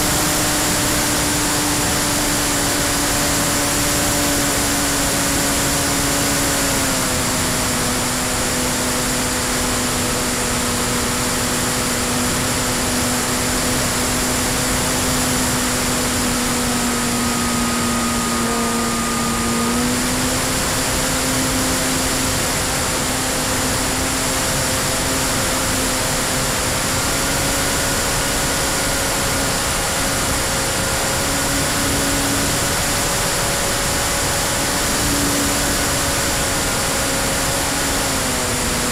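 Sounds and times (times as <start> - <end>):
electric motor and propeller drone: 0.0 - 38.9.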